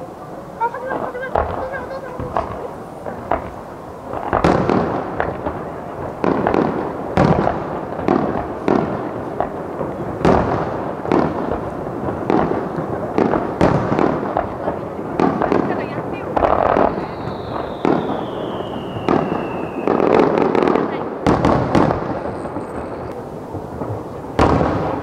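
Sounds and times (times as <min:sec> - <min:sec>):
firework crackle and rumble: 0:00.0 - 0:25.0
firework shells bursting: 0:01.2 - 0:25.0.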